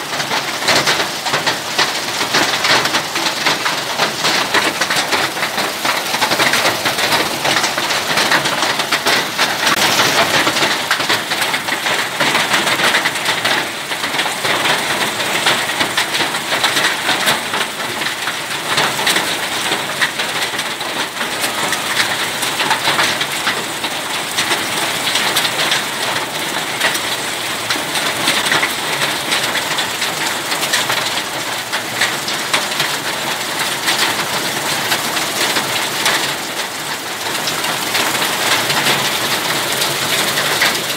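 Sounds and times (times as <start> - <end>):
hailstones pelting wet ground: 0.0 - 40.9.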